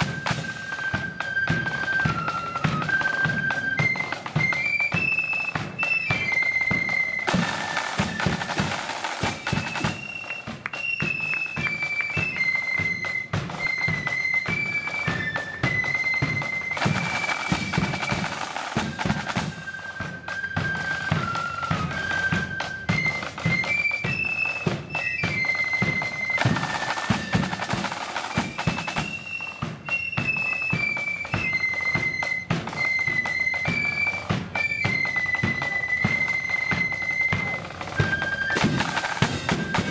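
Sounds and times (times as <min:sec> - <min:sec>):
flutes playing high melody: 0:00.0 - 0:39.9
rattling snare drums: 0:00.0 - 0:39.9.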